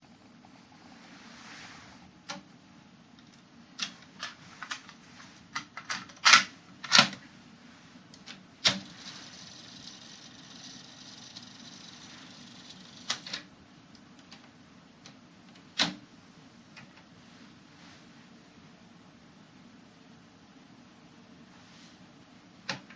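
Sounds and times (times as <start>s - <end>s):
steady tape hiss: 0.0s - 22.9s.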